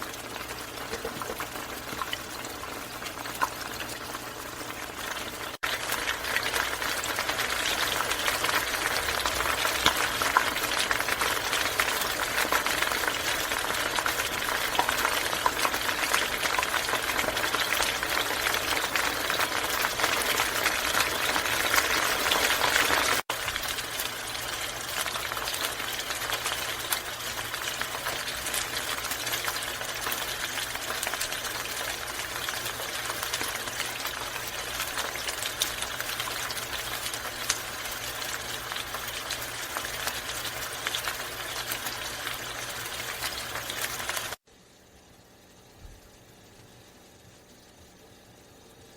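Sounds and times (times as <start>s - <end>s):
hot oil sizzling and crackling: 0.0s - 48.9s.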